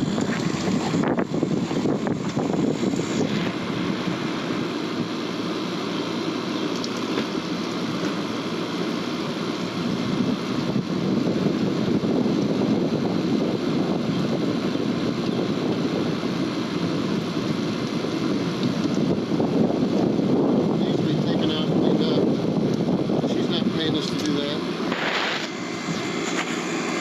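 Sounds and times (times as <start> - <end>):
window air conditioner running: 0.0 - 27.0.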